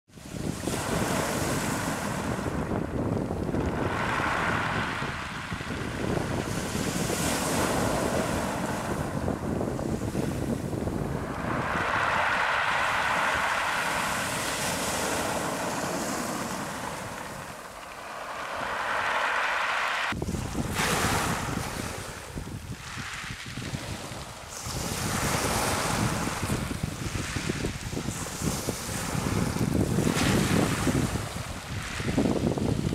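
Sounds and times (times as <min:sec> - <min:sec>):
surf breaking on pebbles: 0:00.3 - 0:32.9.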